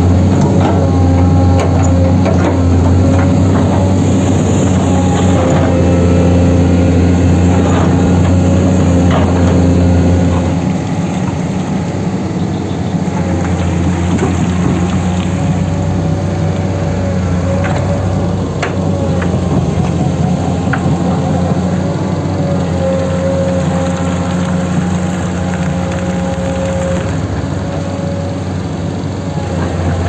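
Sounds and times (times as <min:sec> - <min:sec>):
heavy machinery engine running: 0:00.0 - 0:30.0.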